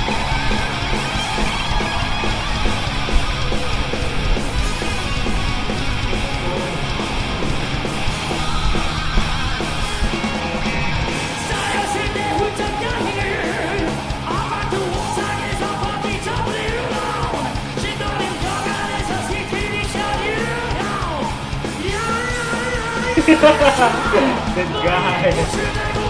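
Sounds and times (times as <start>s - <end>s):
rock band with drums and guitars: 0.0s - 26.0s
man singing rock song: 3.4s - 26.0s.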